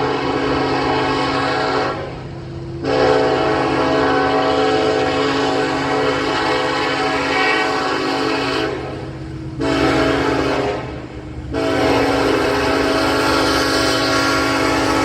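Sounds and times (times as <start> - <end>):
locomotive air horn: 0.0 - 2.2, 2.8 - 15.0
train rumble: 0.0 - 15.0.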